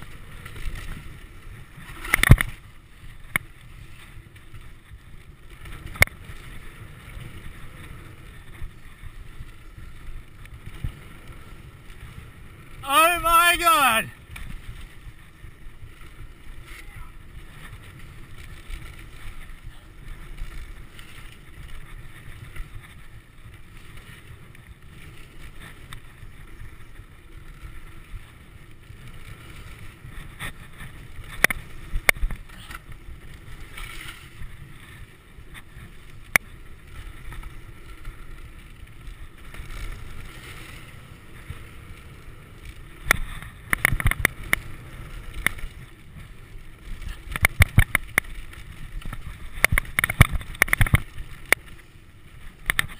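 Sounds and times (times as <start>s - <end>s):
bike rattling over bumps: 0.0s - 12.8s, 14.1s - 52.9s
bike tyres on dirt: 0.0s - 52.9s.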